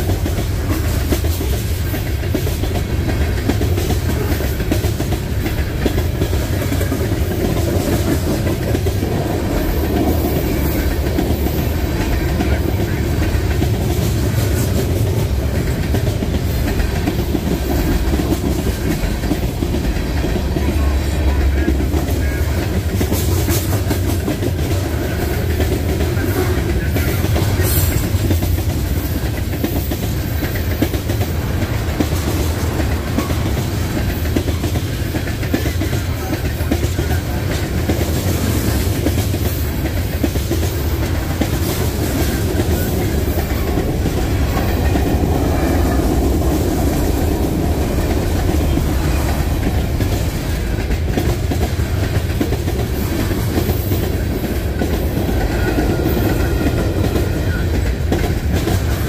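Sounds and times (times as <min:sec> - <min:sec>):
freight train rumbling past: 0:00.0 - 0:59.0
steel wheels clattering on rails: 0:00.0 - 0:59.0.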